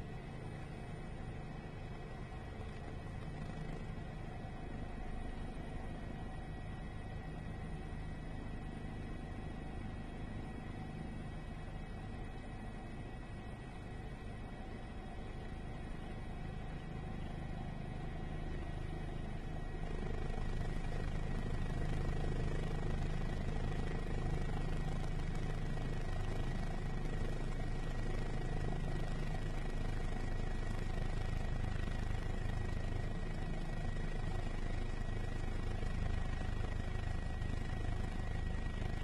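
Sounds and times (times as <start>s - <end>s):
helicopter rotor drone: 0.0s - 39.0s.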